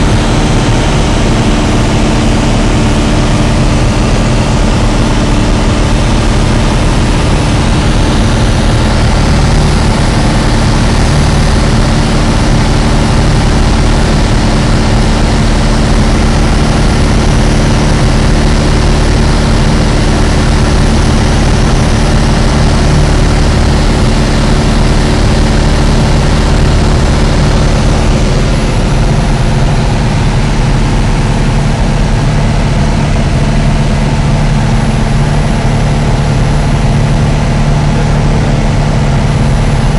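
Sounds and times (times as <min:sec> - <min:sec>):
airflow noise: 0:00.0 - 0:39.9
light aircraft engine drone: 0:00.0 - 0:39.9.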